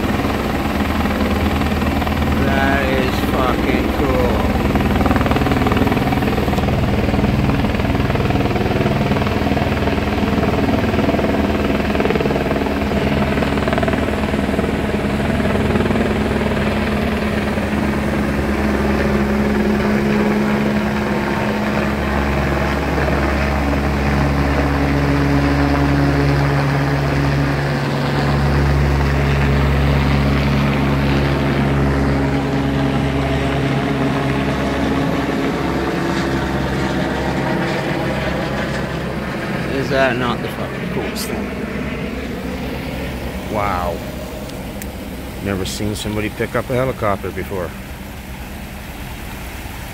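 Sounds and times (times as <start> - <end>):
helicopter rotor beat: 0.0 - 49.9.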